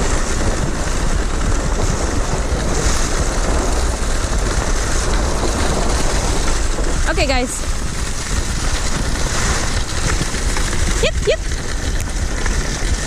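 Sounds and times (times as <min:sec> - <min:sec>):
sled gliding on snow: 0:00.0 - 0:13.0
wind buffeting microphone: 0:00.0 - 0:13.0.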